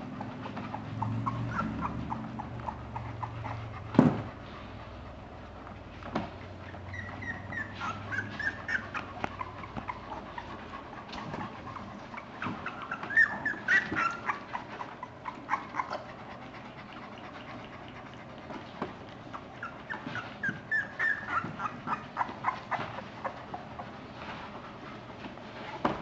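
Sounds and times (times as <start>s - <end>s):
puppies squeaking and whimpering: 0.0s - 24.6s.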